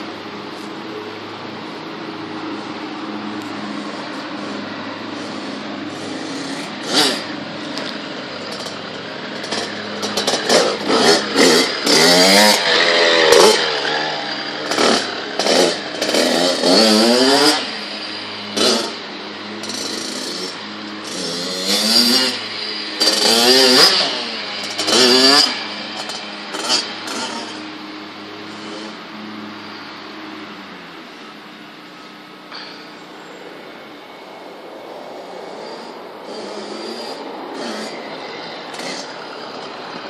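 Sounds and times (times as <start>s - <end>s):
dirt bike engine revving: 0.0s - 31.3s, 32.6s - 40.0s.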